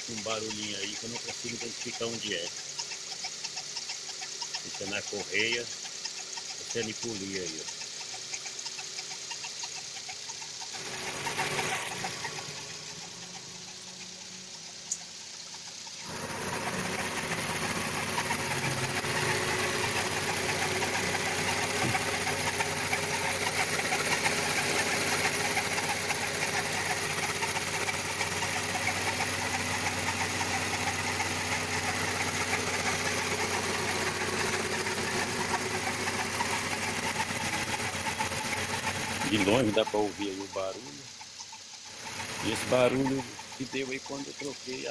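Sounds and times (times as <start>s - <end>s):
car engine idling: 0.0s - 44.9s
timing belt noise: 0.0s - 44.9s.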